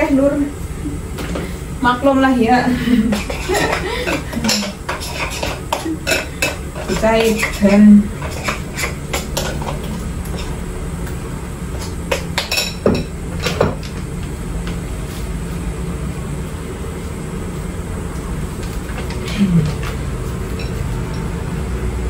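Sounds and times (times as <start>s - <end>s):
low kitchen hum: 0.0s - 22.0s.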